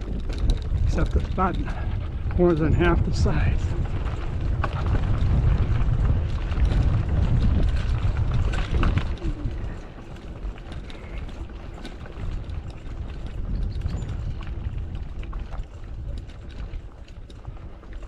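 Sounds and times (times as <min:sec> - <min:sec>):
mountain bike rumble and rattle: 0:00.0 - 0:18.0
wind buffeting microphone: 0:00.0 - 0:18.0.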